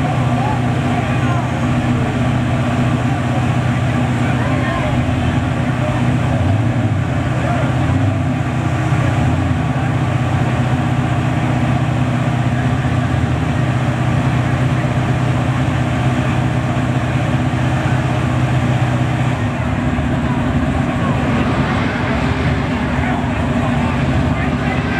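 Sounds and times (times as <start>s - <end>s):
race car engine idling: 0.0s - 24.9s.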